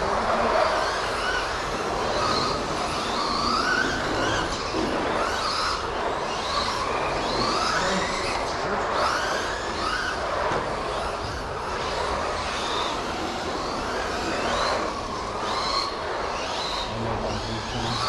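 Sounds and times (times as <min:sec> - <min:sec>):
toy car motors whining: 0:00.0 - 0:18.0.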